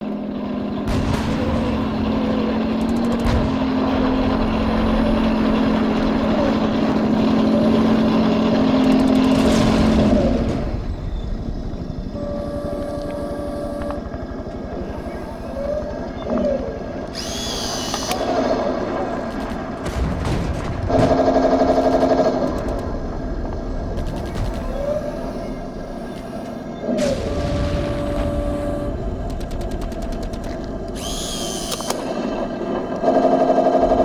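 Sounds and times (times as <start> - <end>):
model tank engine running: 0.0 - 34.0.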